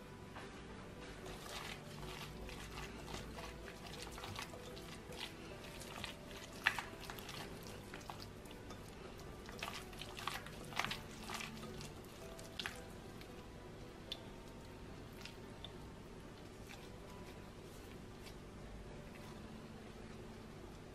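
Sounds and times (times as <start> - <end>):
hands kneading wet minced meat: 1.1 - 20.9.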